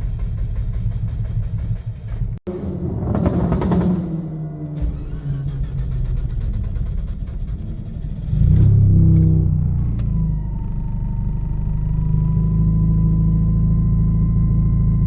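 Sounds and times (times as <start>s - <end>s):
car engine cranking: 0.0s - 13.6s
engine revving and running: 0.0s - 15.0s.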